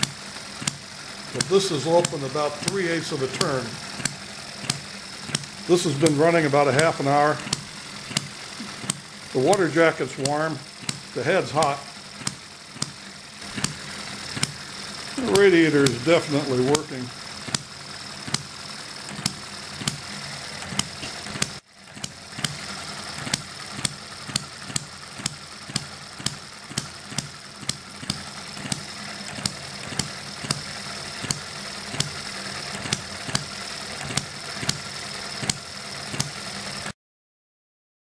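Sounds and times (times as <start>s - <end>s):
engine running gear clatter: 0.0s - 36.9s.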